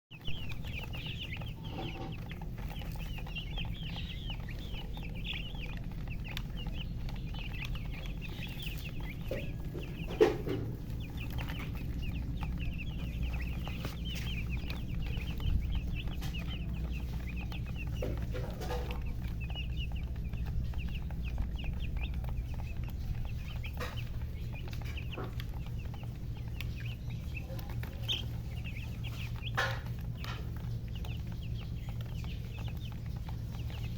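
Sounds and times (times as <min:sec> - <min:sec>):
chicks peeping: 0:00.1 - 0:33.9
steady low hum: 0:00.1 - 0:33.9.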